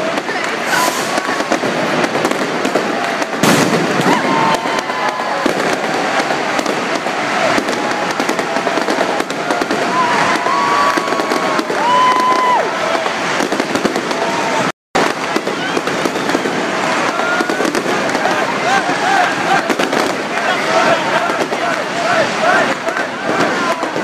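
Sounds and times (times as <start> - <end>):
fireworks crackling and banging: 0.0 - 24.0
heavy firework bang: 0.0 - 24.0.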